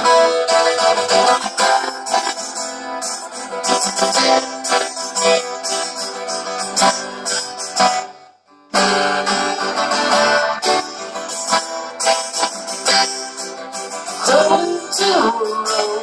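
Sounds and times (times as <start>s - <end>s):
acoustic guitar through speaker: 0.0s - 16.0s.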